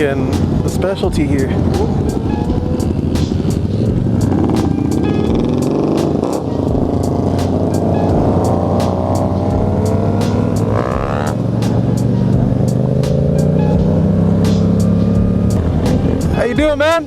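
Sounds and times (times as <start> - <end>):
motorcycle engines revving: 0.0 - 17.0
music with a regular beat: 0.0 - 17.0.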